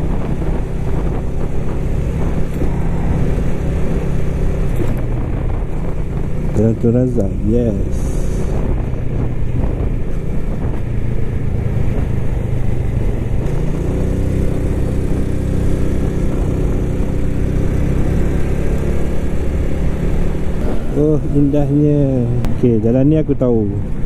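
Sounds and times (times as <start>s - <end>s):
motorcycle engine cruising: 0.0s - 24.0s
wind and road rush: 0.0s - 24.0s.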